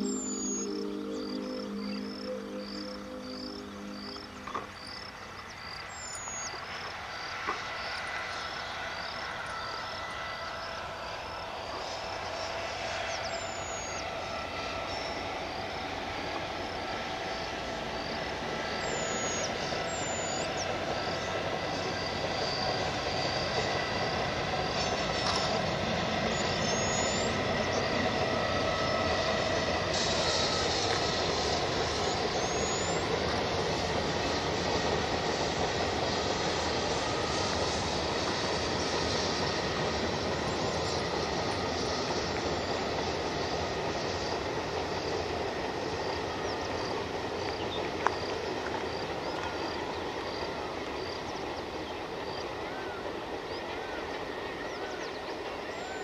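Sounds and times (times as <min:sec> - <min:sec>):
diesel train rumble: 0:00.0 - 0:56.0
insects chirping: 0:00.0 - 0:56.0.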